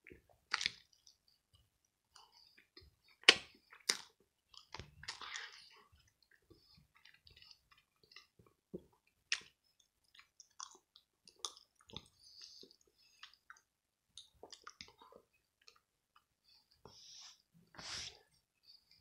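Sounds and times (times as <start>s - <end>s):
person chewing food: 0.0s - 17.4s.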